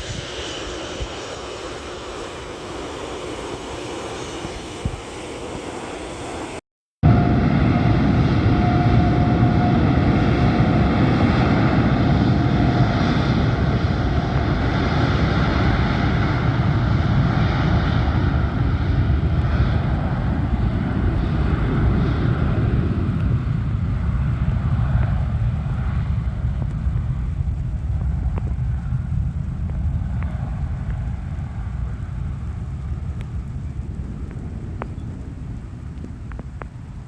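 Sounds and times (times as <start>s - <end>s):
airliner engines roaring: 0.0s - 37.0s
faint engine whine: 0.0s - 37.0s.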